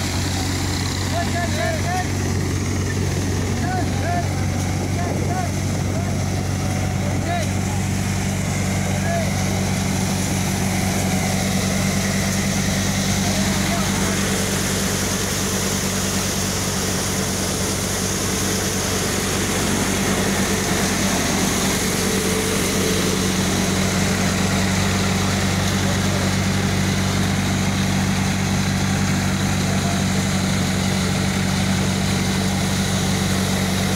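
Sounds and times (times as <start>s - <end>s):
thresher mechanical noise: 0.0s - 33.9s
tractor engine drone: 0.0s - 33.9s.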